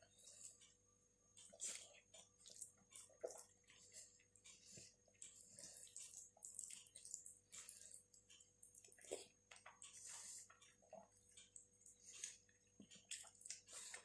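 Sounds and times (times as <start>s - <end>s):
wet chewing and lip-smacking: 1.4s - 14.0s.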